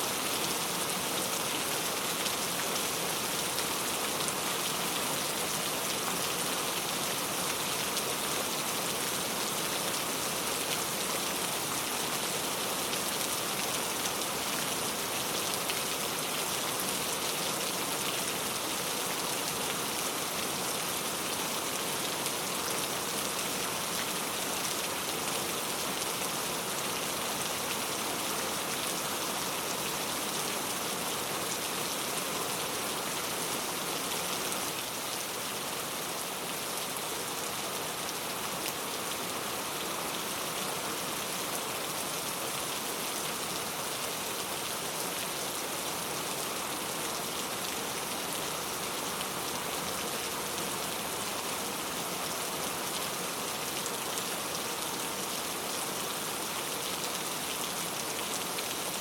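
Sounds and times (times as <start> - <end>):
very heavy rain: 0.0 - 59.0.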